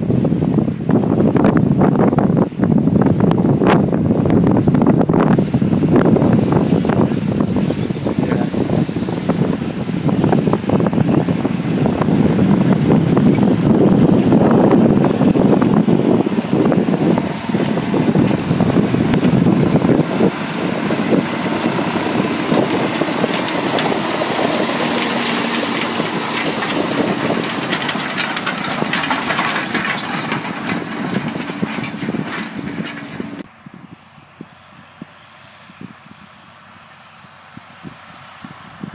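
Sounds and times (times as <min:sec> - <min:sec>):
tractor engine running: 0:00.0 - 0:33.5.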